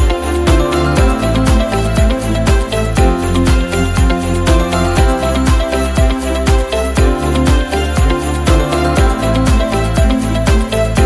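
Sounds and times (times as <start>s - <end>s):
christmas style music with jingle bells: 0.0s - 11.0s.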